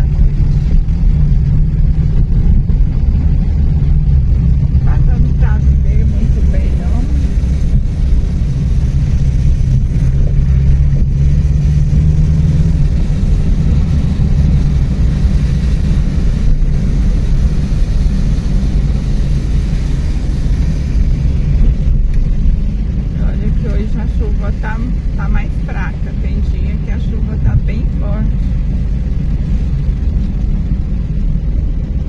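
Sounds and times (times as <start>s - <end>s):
car driving on wet road: 0.0s - 32.0s.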